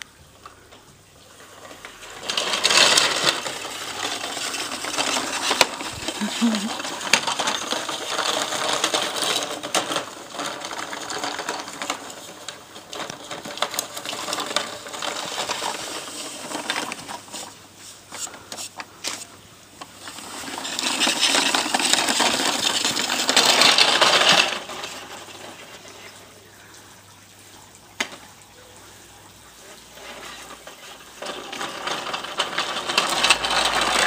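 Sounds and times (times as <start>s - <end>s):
toy shopping trolley rattling: 1.3s - 26.9s, 29.6s - 34.0s.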